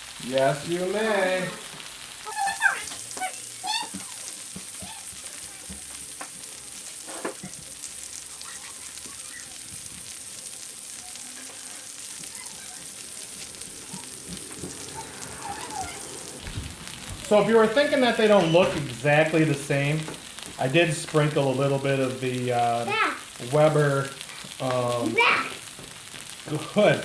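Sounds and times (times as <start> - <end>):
fish sizzling on a griddle: 0.0 - 27.0.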